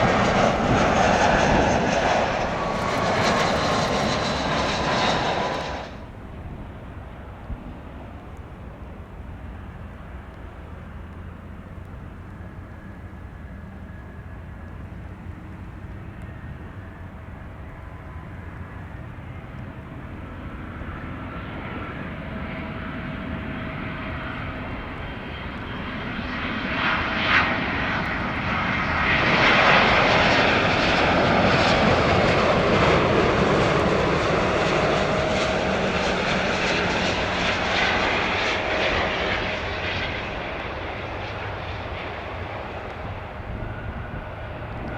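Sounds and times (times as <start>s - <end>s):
jet engines roaring: 0.0s - 44.9s.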